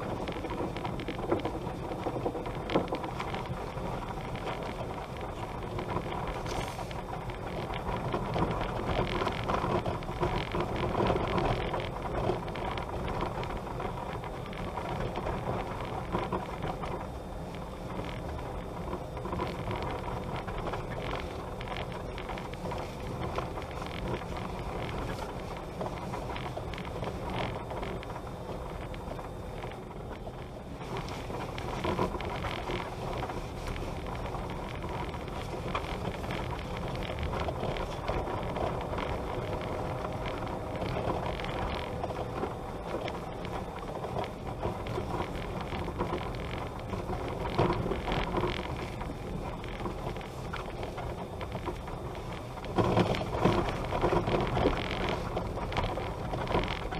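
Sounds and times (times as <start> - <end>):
tyres rumbling on dirt and gravel: 0.0 - 56.9.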